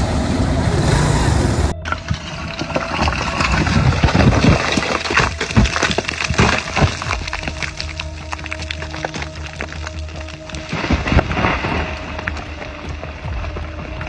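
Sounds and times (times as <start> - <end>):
rushing noisy background: 0.0 - 14.0
sharp knocks and cracks: 1.9 - 14.0.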